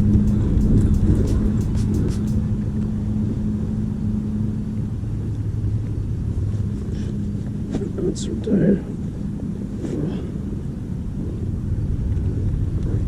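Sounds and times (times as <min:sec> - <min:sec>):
rumble: 0:00.0 - 0:13.0.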